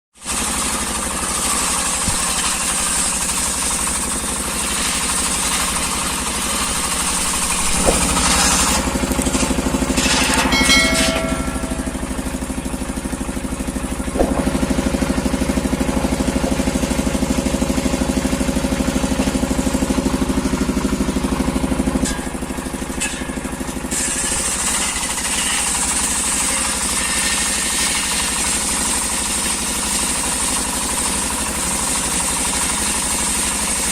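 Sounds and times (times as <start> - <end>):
engine-driven sawmill running: 0.2 - 33.9.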